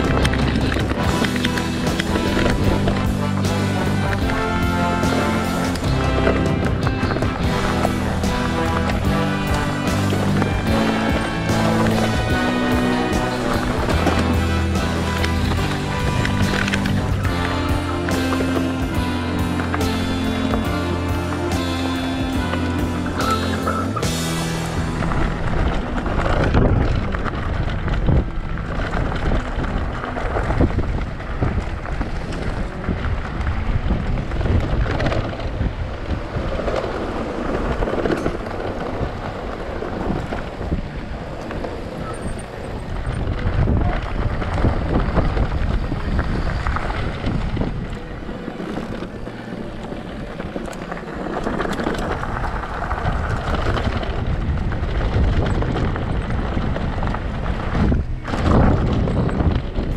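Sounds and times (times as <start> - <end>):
bike rumbling over rough trail: 0.0 - 59.9
wind buffeting microphone: 0.0 - 59.9.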